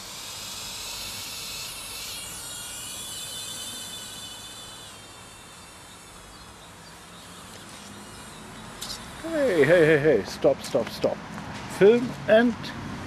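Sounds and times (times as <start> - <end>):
mini quadcopter motors whining: 0.0 - 11.2.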